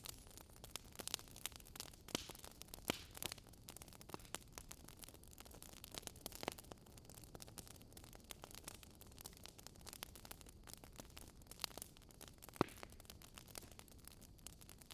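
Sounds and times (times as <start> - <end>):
fire crackling: 0.0 - 14.9.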